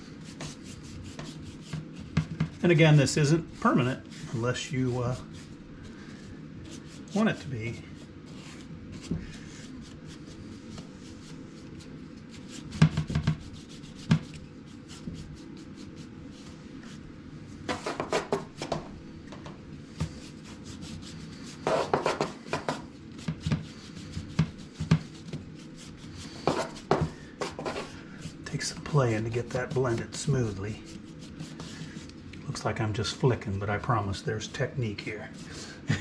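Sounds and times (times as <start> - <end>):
low background hum: 0.0 - 36.0
rubbing and scrubbing on wood: 0.2 - 17.0, 17.6 - 18.8, 19.9 - 32.1.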